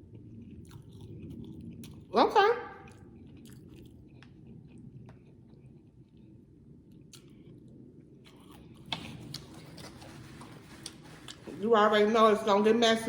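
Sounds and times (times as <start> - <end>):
person chewing food: 0.0 - 11.6.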